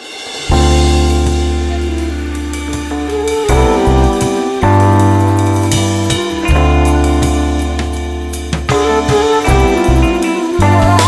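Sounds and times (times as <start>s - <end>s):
drum and cymbal hits: 0.0s - 11.0s
sustained bass and chord: 0.5s - 11.0s.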